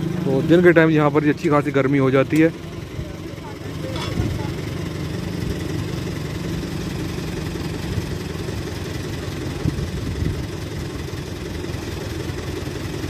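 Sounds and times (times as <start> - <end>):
diesel machinery idling: 0.0 - 13.0.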